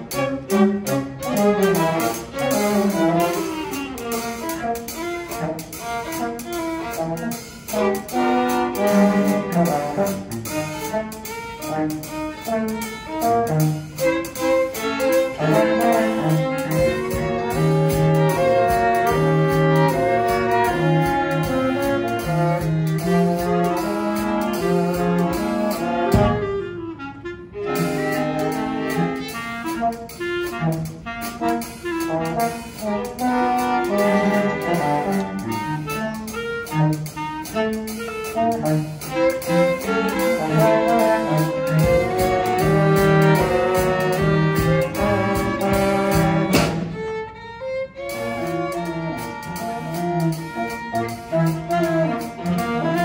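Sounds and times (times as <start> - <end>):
chamber ensemble playing: 0.0 - 53.0.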